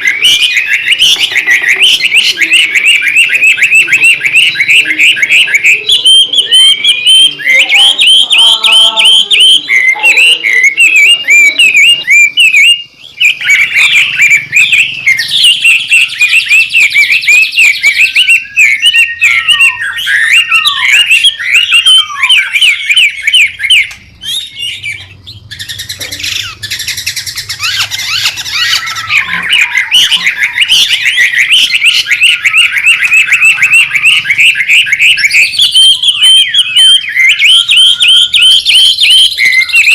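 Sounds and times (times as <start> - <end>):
bird singing rapid chattering song: 0.0 - 39.9.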